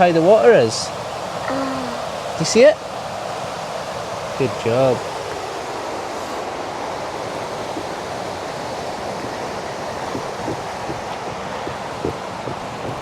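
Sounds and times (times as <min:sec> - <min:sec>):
river rapids rushing: 0:00.0 - 0:13.0.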